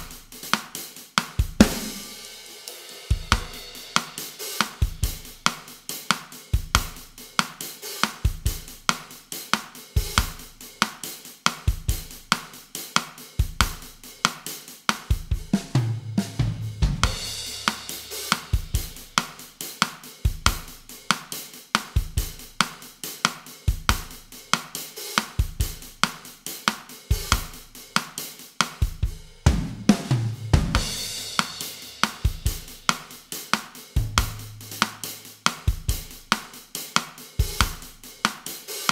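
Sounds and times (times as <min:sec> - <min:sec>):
drum kit playing bossa nova: 0:00.0 - 0:38.9.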